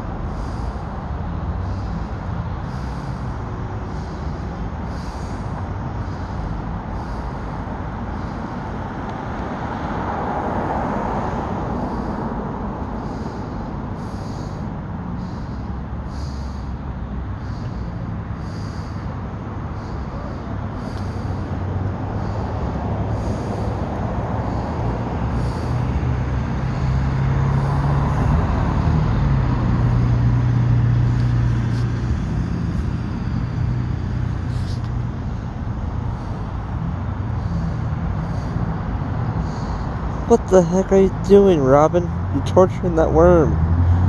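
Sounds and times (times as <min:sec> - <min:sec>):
low rumble of traffic: 0:00.0 - 0:44.0
vehicle engine drone: 0:00.0 - 0:44.0.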